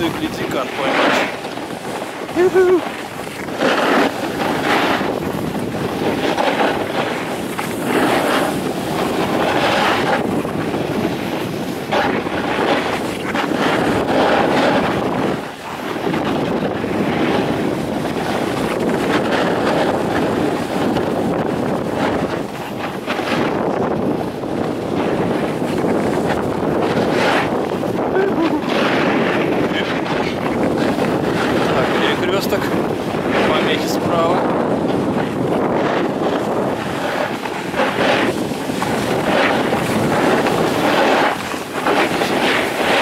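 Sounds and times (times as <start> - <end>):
snowboard sliding over snow: 0.0 - 43.0
wind buffeting microphone: 0.0 - 43.0.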